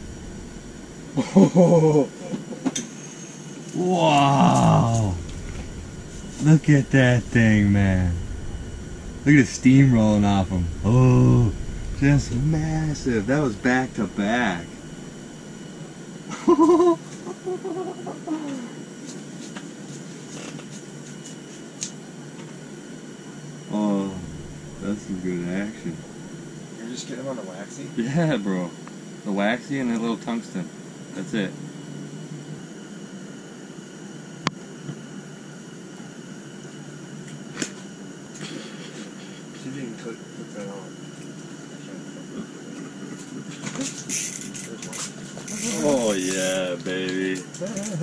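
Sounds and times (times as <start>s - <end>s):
propane heater hissing: 0.0s - 48.0s.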